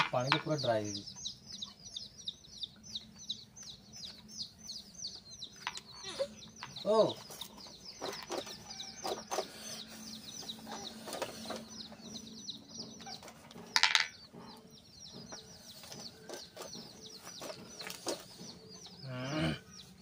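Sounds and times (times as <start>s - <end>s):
chickens chirping: 0.0s - 20.0s.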